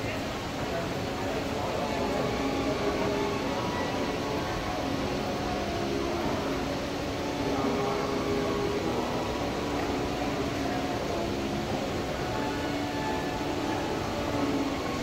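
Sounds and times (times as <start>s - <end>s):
fountain water jets splashing: 0.0s - 15.0s.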